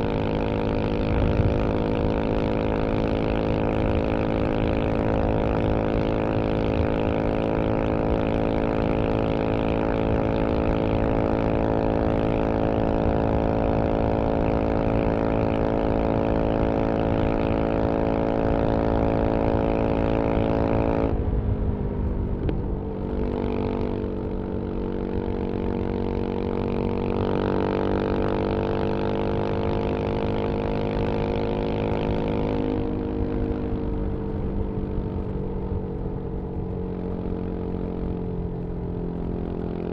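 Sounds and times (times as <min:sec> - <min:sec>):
motorcycle engine at high revs: 0:00.0 - 0:21.3, 0:22.0 - 0:39.9.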